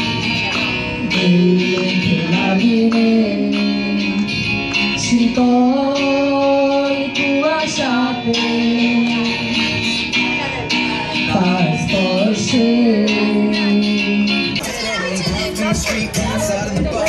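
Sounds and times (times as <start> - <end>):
women singing: 0.0 - 4.2, 5.0 - 17.0
strummed acoustic guitar: 0.0 - 17.0.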